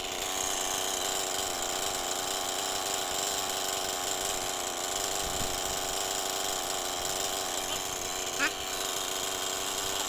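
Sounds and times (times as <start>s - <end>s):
chainsaw engine idling: 0.0s - 10.0s.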